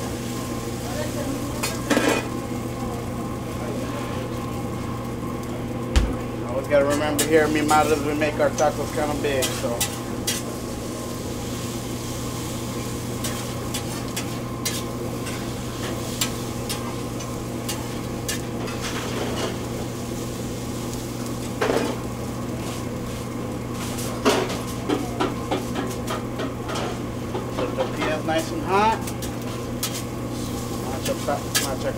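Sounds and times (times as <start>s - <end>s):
food sizzling on griddle: 0.0s - 31.9s
low kitchen hum: 0.0s - 31.9s.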